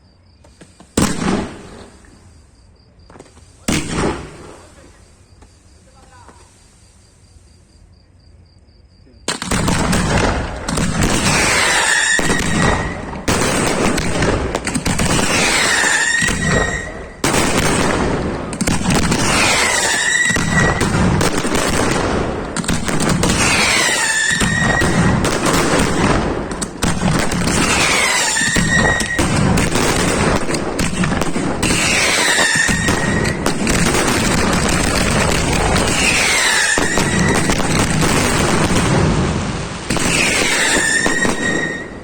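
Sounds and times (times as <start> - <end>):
fireworks bangs and crackling: 0.0 - 7.7, 9.2 - 42.0.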